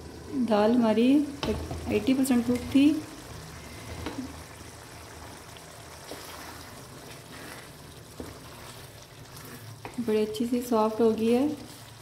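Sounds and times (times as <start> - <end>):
lentils bubbling in a pan: 0.0 - 12.0.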